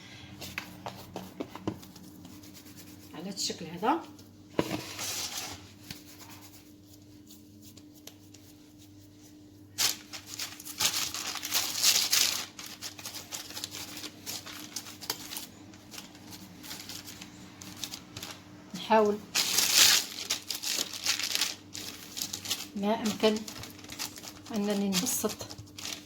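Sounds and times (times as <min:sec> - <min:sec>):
hands rustling and rubbing dough: 0:00.2 - 0:26.0.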